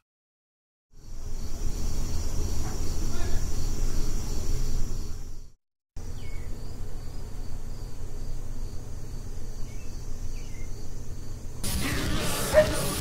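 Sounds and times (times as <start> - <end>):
crickets chirping: 0.9 - 13.0.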